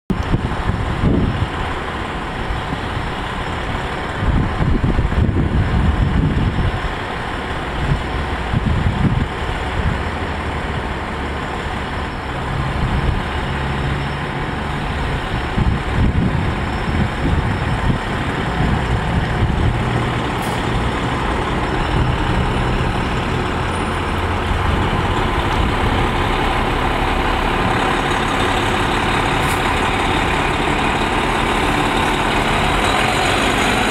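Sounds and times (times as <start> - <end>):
fire engine engine running: 0.1 - 33.9.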